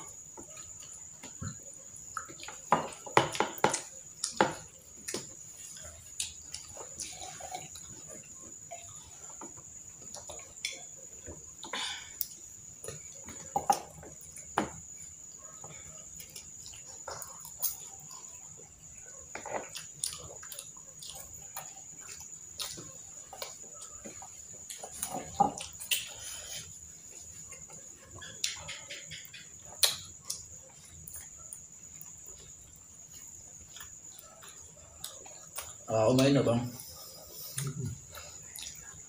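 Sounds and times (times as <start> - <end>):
people chewing and lip smacking: 0.0 - 39.0.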